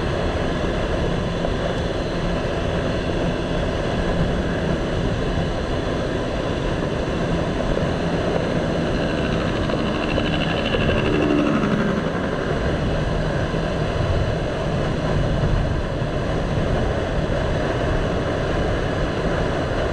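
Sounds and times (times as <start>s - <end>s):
motorcycle engine running: 0.0s - 19.9s
wind and road noise: 0.0s - 19.9s.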